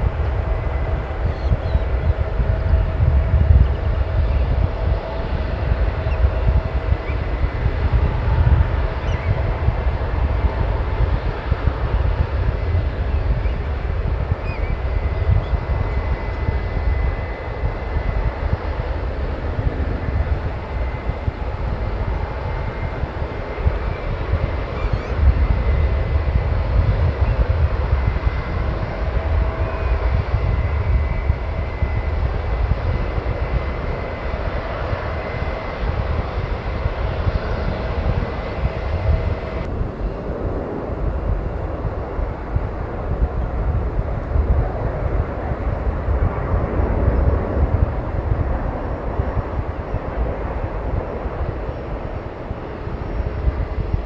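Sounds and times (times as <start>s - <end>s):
faint high whine: 0.0s - 54.0s
jet engines rumbling: 0.0s - 54.0s.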